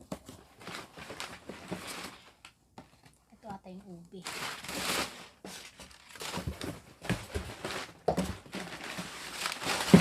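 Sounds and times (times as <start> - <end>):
plastic packaging crinkling: 0.2 - 2.5, 4.2 - 10.0.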